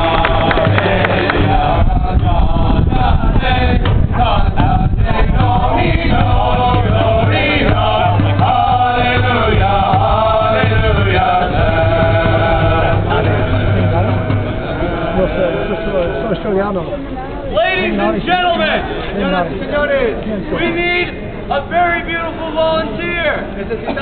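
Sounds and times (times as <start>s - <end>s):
voices singing a chant: 0.0s - 19.5s.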